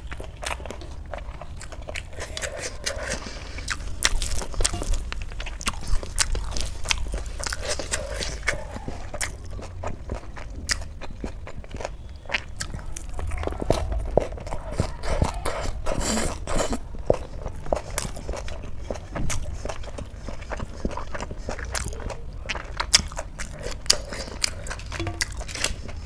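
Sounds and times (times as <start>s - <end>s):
mouth clicks and crunches: 0.0s - 26.0s
person chewing and eating: 0.0s - 26.0s.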